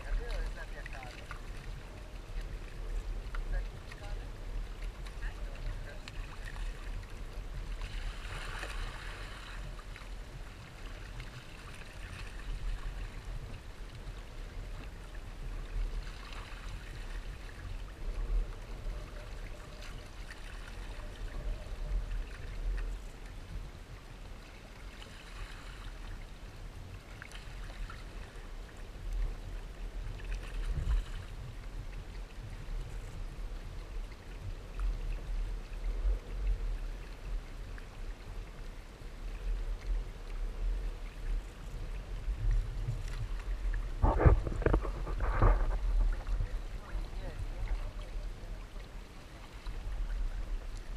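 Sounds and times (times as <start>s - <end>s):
water rushing along hull: 0.0s - 50.9s
wind rumble on microphone: 0.0s - 50.9s.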